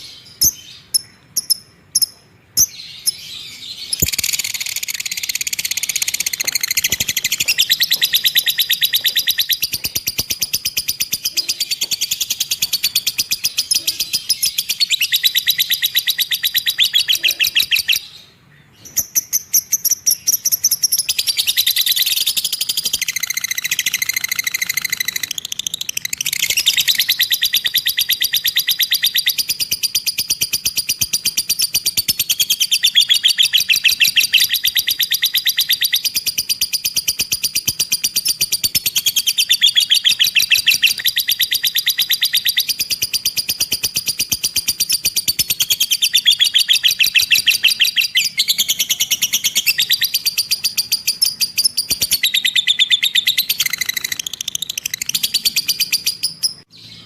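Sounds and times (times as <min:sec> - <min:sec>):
songbird singing rapid trills: 0:00.0 - 0:57.0.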